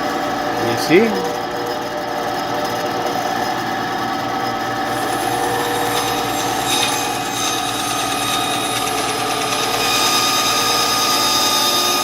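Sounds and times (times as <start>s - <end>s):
band saw cutting power cord: 0.0s - 12.0s
motor hum: 0.0s - 12.0s.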